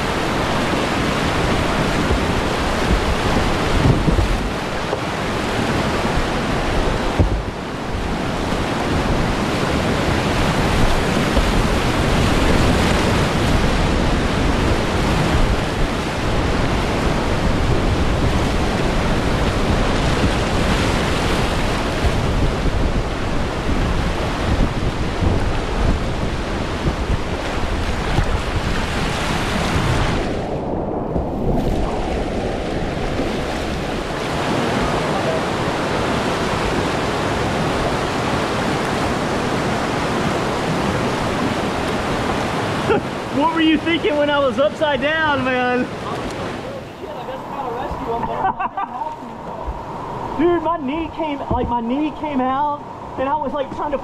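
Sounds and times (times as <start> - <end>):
wind noise on microphone: 0.0 - 44.2, 44.8 - 54.0
rushing whitewater: 0.0 - 54.0.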